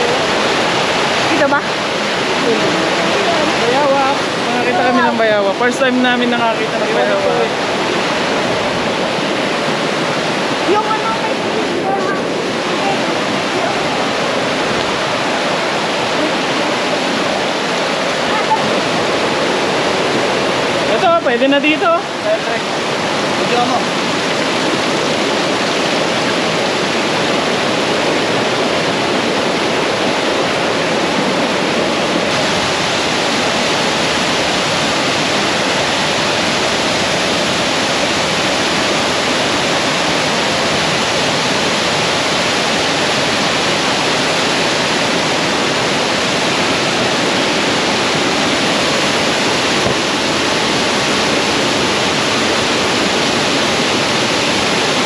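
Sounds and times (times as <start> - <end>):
waterfall pouring: 0.0 - 55.0.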